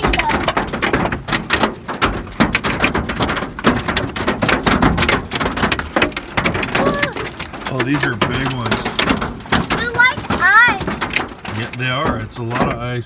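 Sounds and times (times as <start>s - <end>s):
hail drumming on car: 0.0s - 13.0s.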